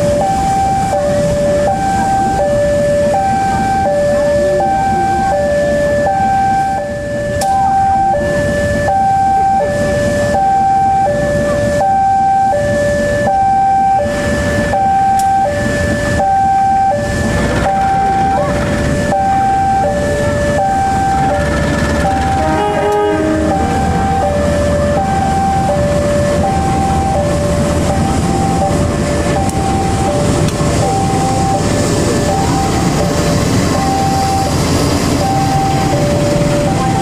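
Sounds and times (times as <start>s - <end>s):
diesel locomotive rumble: 0.0s - 37.0s
two-tone crossing alarm chime: 0.0s - 37.0s.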